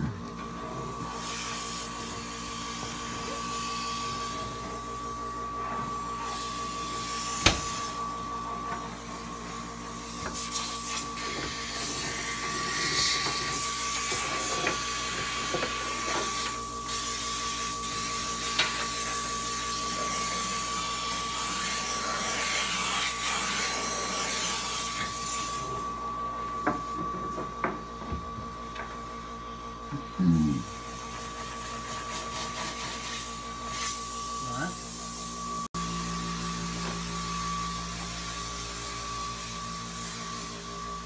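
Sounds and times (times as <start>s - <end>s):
machine hum with whine: 0.0s - 41.0s.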